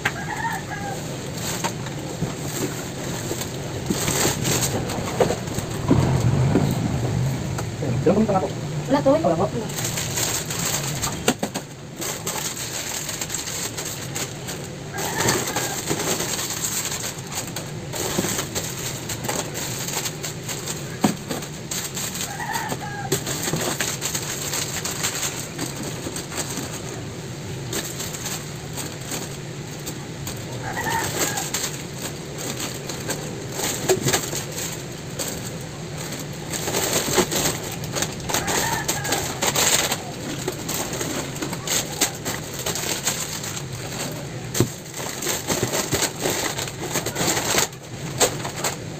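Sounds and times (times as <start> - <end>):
plastic packets rustling: 0.0 - 48.9.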